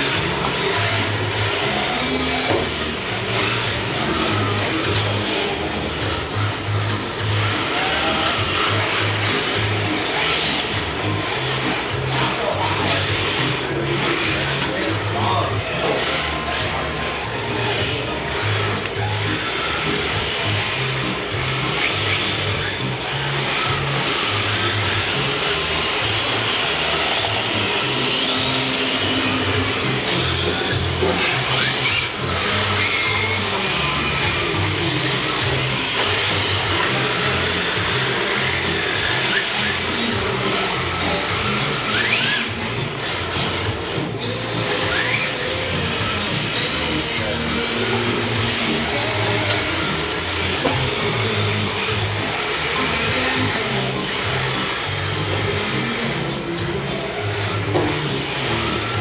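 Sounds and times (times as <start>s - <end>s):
rc car motors whining: 0.0s - 59.0s.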